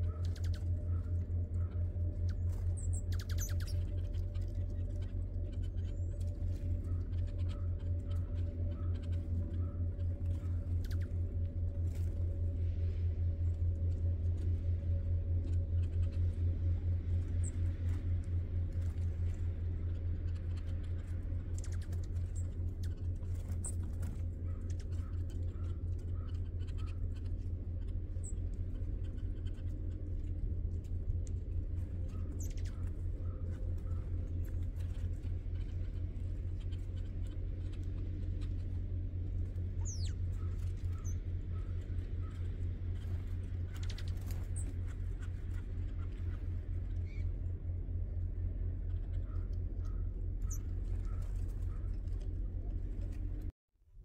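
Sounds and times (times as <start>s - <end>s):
small birds chipping: 0.0s - 53.5s
low hum with rapid flutter: 0.0s - 54.0s.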